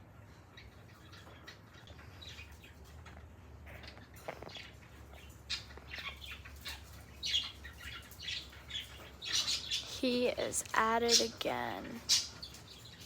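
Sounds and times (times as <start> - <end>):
parrot chirping and chattering: 0.0 - 13.0.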